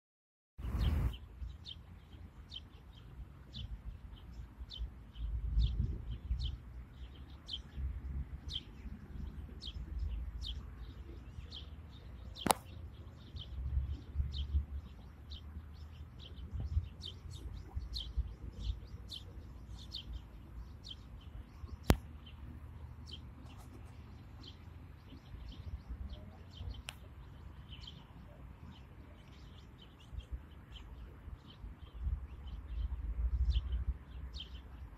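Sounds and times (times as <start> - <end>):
bird chirping: 0.6 - 34.9.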